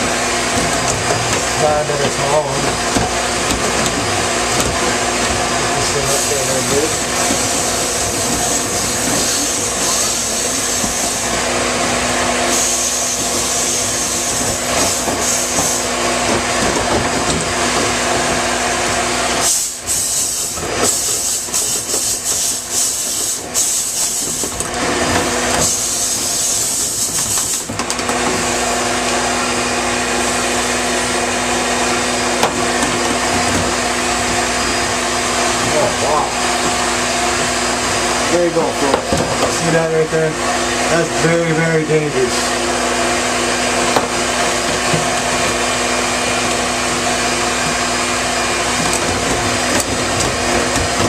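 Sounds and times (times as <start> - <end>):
vacuum cleaner motor humming: 0.0 - 51.0.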